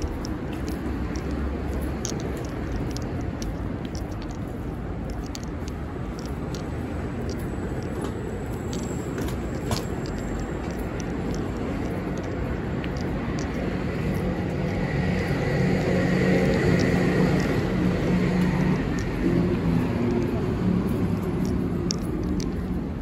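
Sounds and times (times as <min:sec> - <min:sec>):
city traffic hum: 0:00.0 - 0:23.0.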